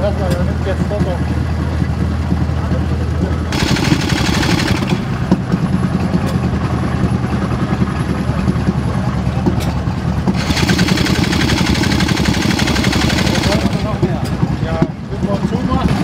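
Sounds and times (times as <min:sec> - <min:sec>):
small engine running: 0:01.7 - 0:09.6, 0:10.2 - 0:16.0.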